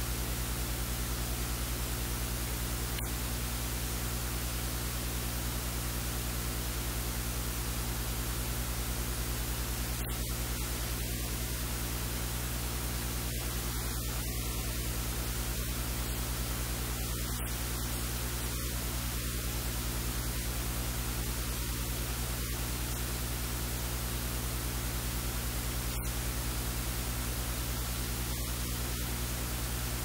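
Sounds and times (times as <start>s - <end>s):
low electrical hum: 0.0s - 30.0s
steady hiss: 0.0s - 30.0s.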